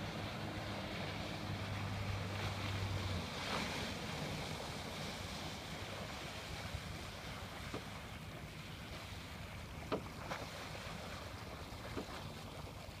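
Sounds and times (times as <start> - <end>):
outboard motor humming: 0.0 - 13.0
water wash: 0.0 - 13.0.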